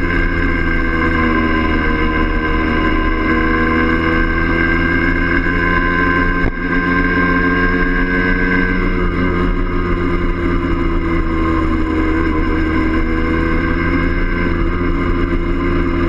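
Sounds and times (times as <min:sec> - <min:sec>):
two-stroke motorcycle engine running: 0:00.0 - 0:16.0.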